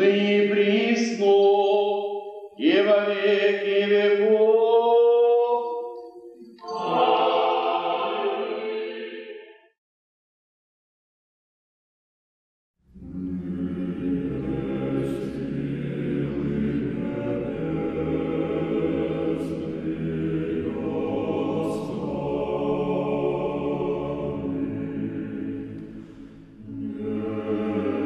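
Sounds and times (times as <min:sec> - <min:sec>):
choir singing chant: 0:00.2 - 0:09.8, 0:12.9 - 0:28.0.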